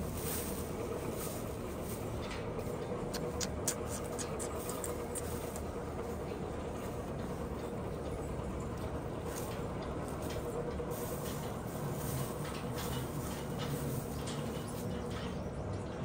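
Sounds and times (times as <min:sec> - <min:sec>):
faint hum: 0:00.0 - 0:16.0
vehicle rumbling: 0:00.0 - 0:16.0.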